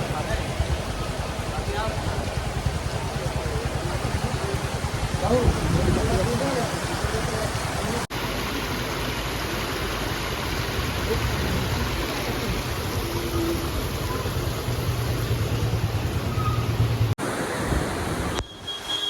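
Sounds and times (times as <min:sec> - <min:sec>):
heavy rain and floodwater rushing: 0:00.0 - 0:19.0.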